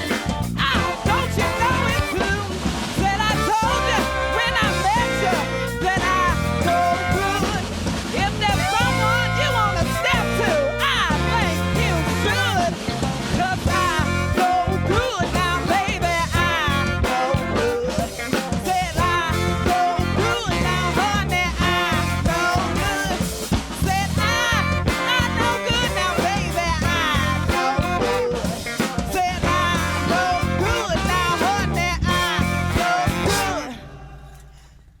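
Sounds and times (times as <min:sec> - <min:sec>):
live band playing: 0:00.0 - 0:33.8
drum kit: 0:00.0 - 0:34.6.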